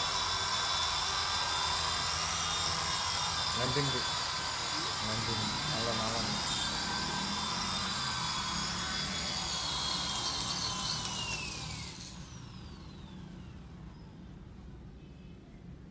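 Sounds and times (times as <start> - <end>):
rc helicopter rotor whine: 0.0 - 14.2.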